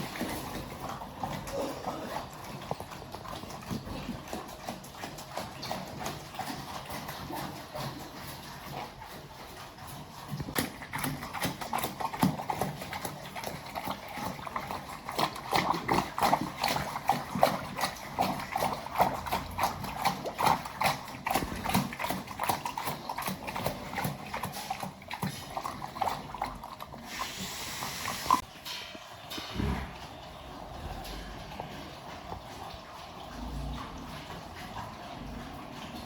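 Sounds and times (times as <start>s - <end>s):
pigs smacking and chomping: 0.0s - 36.0s.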